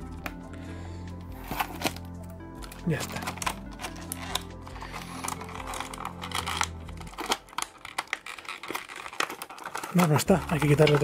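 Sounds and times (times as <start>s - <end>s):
background music with low notes: 0.0s - 11.0s
plastic packaging crinkling: 1.1s - 11.0s.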